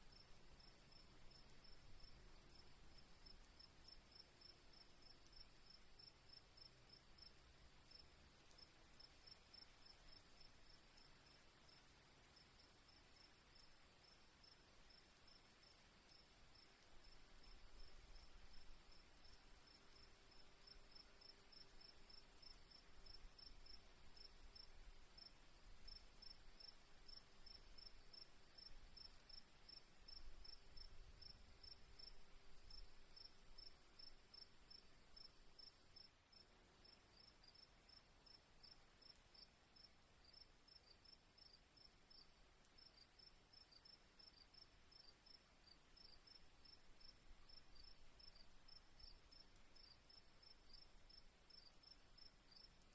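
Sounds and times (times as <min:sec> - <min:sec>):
crickets chirping: 0:00.1 - 0:52.9.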